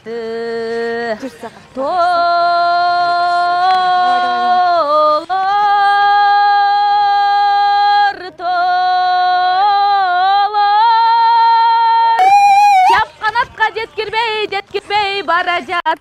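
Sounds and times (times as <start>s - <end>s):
woman singing long held notes: 0.0s - 13.0s.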